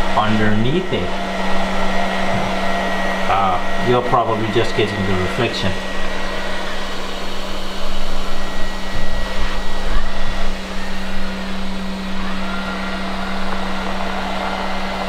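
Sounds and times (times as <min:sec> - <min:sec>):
high whine: 0:00.0 - 0:15.0
robot vacuum cleaner humming: 0:00.0 - 0:15.0.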